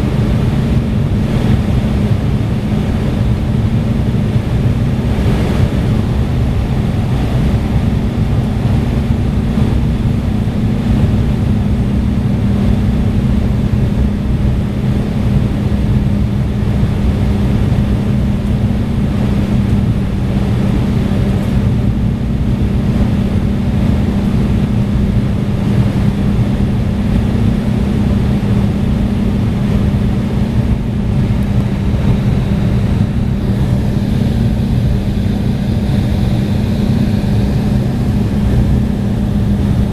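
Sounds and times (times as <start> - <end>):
air rushing past fuselage: 0.0 - 39.9
airliner engines droning: 0.0 - 39.9.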